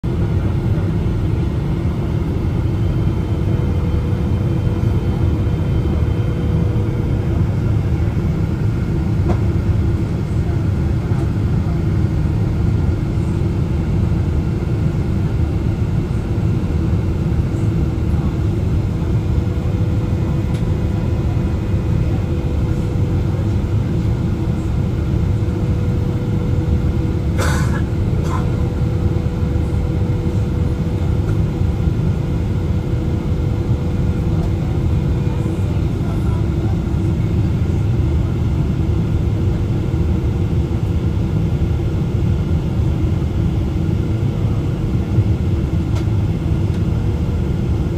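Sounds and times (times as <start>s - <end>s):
aircraft cabin rumble: 0.0s - 47.9s.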